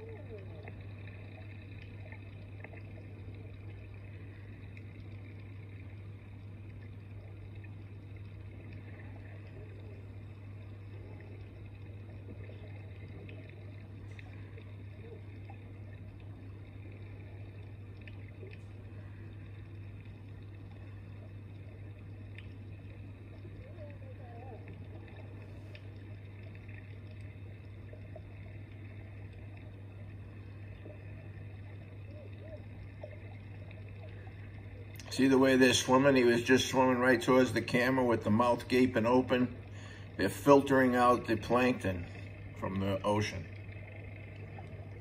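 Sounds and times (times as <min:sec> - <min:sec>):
faint watery hiss: 0:00.0 - 0:45.0
soft scattered ticks: 0:00.0 - 0:45.0
steady low hum: 0:00.0 - 0:45.0.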